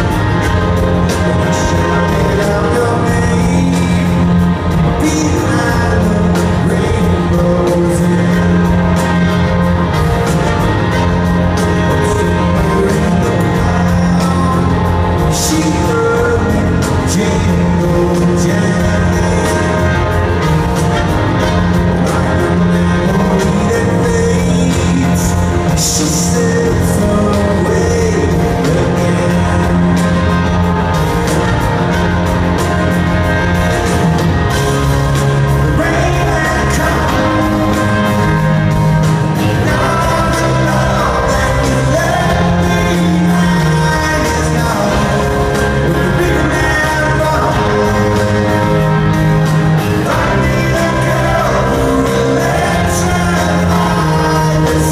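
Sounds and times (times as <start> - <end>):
live rock band playing: 0.0 - 54.9
person singing: 0.0 - 54.9.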